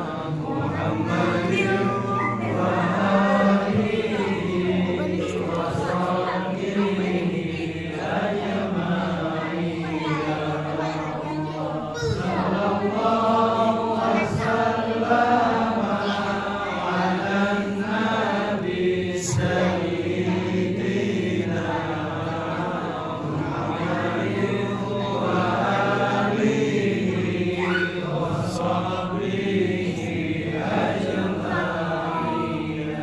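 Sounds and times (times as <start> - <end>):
men chanting in long held tones: 0.0 - 33.0.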